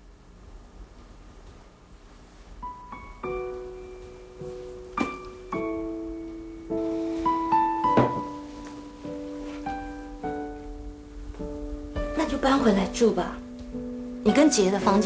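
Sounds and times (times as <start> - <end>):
slow solo piano music: 2.6 - 15.0.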